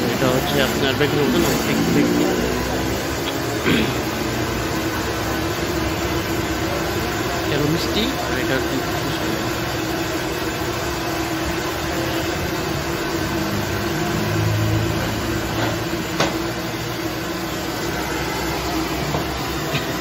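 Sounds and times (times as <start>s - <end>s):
burner hum: 0.0s - 20.0s
dough deep-frying in hot oil: 0.0s - 20.0s.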